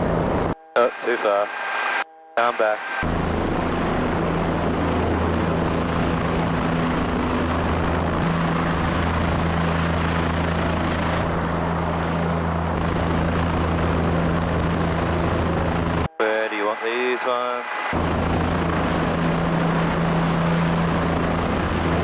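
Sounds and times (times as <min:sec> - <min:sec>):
helicopter engine and rotor hum: 0:02.4 - 0:22.0.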